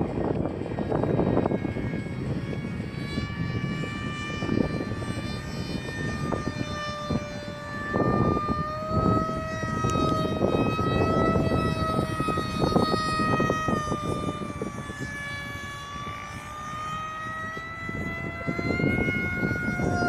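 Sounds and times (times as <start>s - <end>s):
electric motor whine: 0.0s - 20.0s
wind buffeting microphone: 0.0s - 20.0s.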